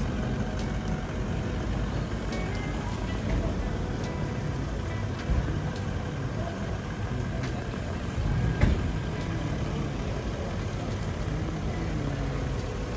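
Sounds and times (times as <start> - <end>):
engines rumbling at low speed: 0.0 - 12.9.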